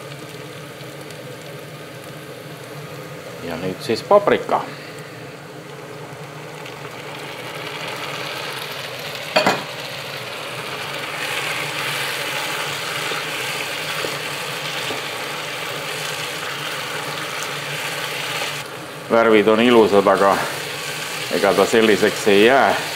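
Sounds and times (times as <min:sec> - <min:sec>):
vegetables sizzling in a pan: 0:00.0 - 0:22.9.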